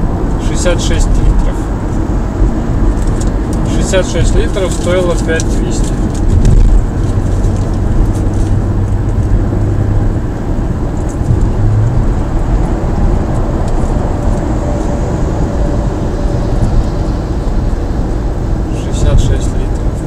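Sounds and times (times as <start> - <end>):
car cabin road noise: 0.0 - 20.0
low engine hum: 0.0 - 20.0.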